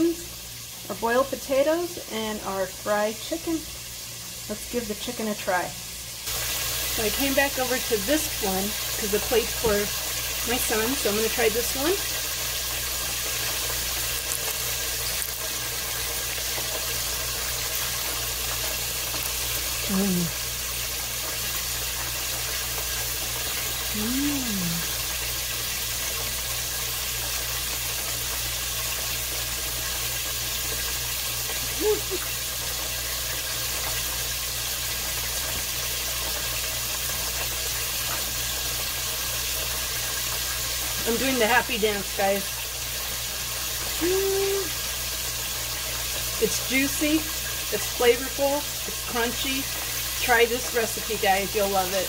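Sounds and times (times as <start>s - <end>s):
pot sizzling hiss: 0.0s - 52.0s.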